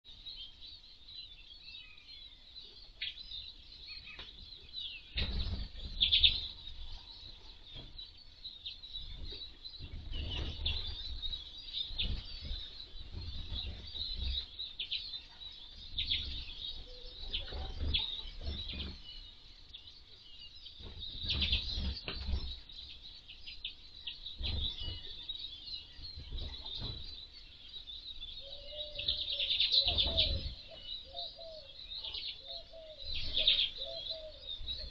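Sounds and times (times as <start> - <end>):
finches twittering: 3.0 - 34.9.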